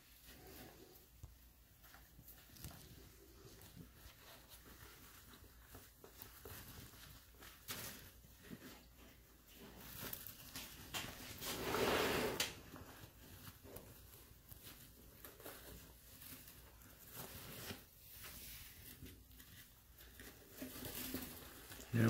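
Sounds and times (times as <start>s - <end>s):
rustling and scraping in bedding: 0.0s - 22.0s.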